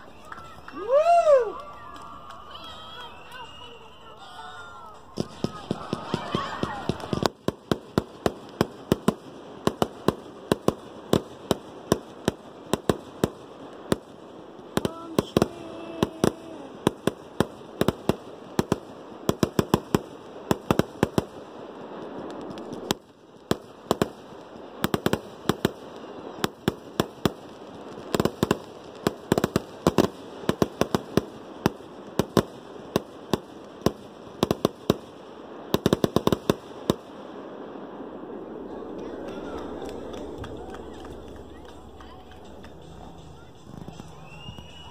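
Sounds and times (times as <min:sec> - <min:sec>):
fireworks cracking and banging: 0:00.0 - 0:44.9.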